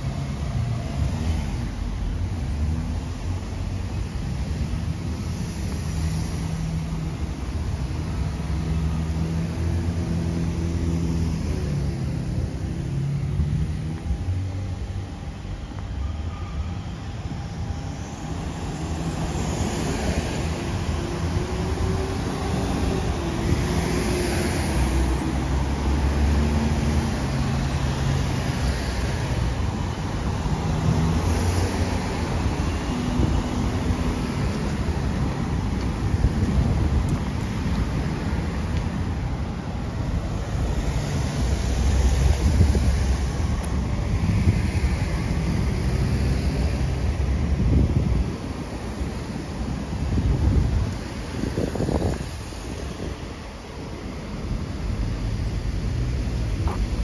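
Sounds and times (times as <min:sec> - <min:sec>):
cars driving past: 0:00.0 - 0:57.0
tyre and road noise: 0:00.0 - 0:57.0.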